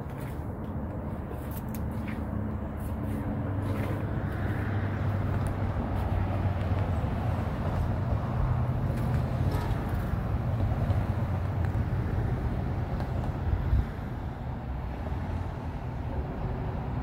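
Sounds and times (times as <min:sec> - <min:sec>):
vehicle rumble: 0:00.0 - 0:17.0.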